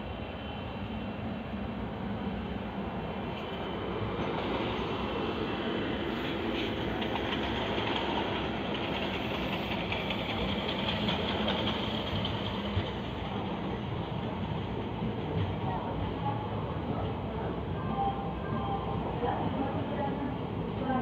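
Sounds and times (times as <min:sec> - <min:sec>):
train wheels clattering on rails: 0:03.2 - 0:20.2.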